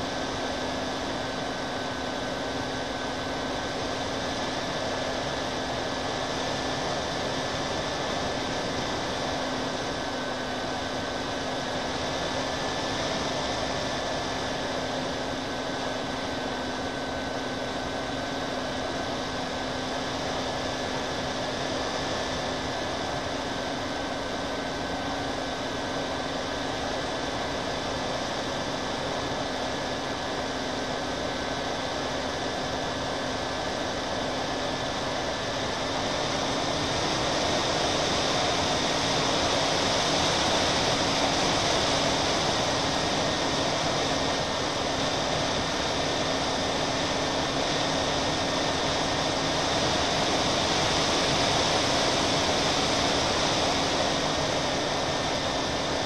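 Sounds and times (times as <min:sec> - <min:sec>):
model plane propellers droning: 0:00.0 - 0:56.0.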